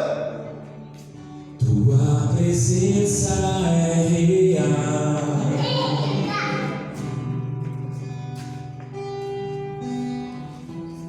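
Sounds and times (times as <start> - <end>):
worship music with guitar: 0.0 - 11.0.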